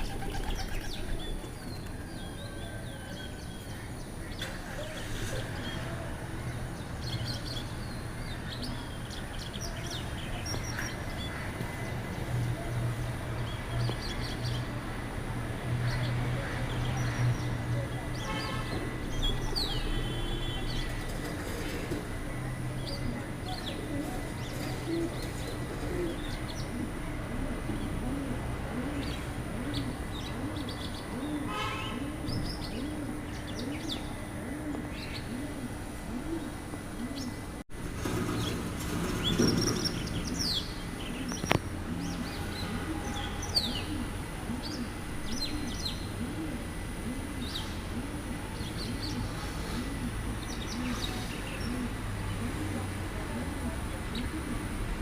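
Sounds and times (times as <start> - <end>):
low bird cooing: 0.0 - 14.7, 19.1 - 55.0
small birds chirping: 0.0 - 14.7, 22.5 - 55.0.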